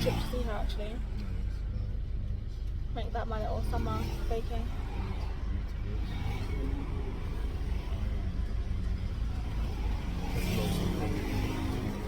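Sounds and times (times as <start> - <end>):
car rumble from inside cabin: 0.0 - 12.0
faint voices: 0.0 - 12.0.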